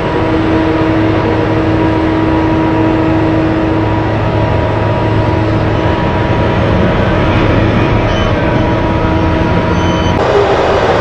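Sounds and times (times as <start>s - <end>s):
diesel engines running under load: 0.0s - 11.0s
steady whine: 0.0s - 11.0s.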